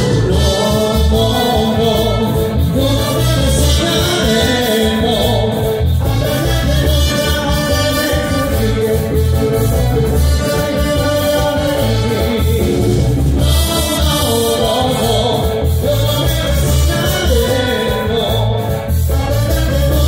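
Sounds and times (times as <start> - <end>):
orchestra playing merengue: 0.0 - 20.0
person singing: 0.0 - 20.0
pulsing bass beat: 0.0 - 20.0.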